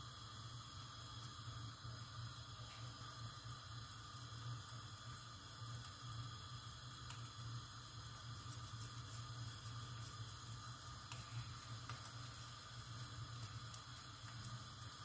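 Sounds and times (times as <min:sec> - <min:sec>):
eggs sizzling in pan: 0:00.0 - 0:15.0.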